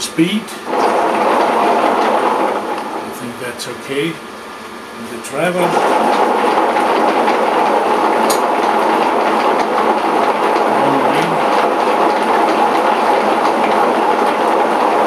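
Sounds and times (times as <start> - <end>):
milling machine running: 0.0 - 15.0.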